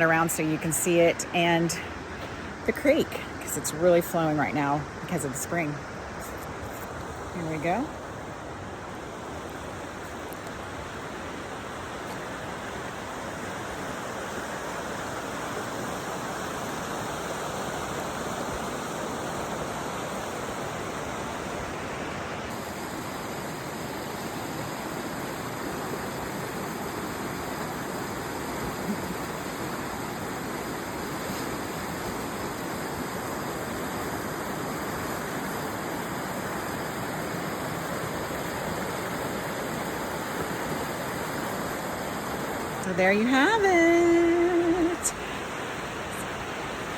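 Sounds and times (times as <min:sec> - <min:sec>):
creek rushing: 0:00.0 - 0:46.9.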